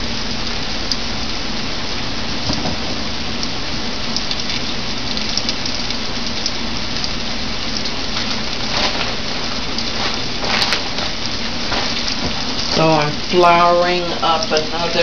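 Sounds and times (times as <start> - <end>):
fish frying in oil: 0.0 - 15.0
oil crackles and pops: 0.0 - 15.0.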